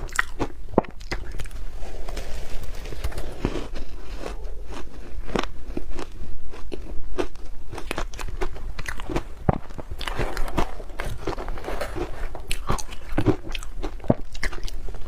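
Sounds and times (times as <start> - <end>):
ice being bitten and chewed: 0.0 - 1.7, 2.8 - 15.0.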